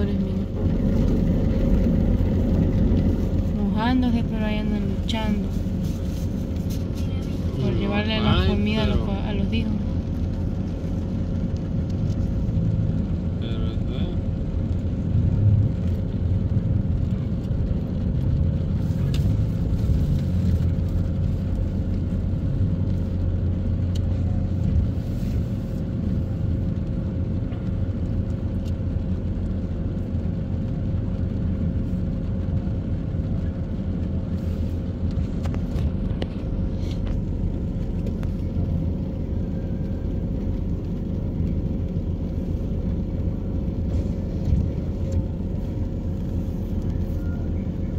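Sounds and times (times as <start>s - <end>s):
car engine low rumble: 0.0s - 47.9s
road noise: 0.0s - 47.9s.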